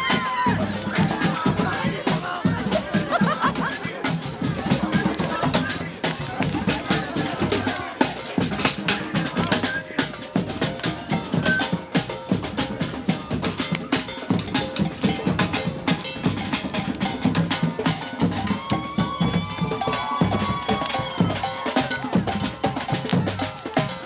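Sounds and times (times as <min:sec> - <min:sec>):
drum-led music: 0:00.0 - 0:24.0.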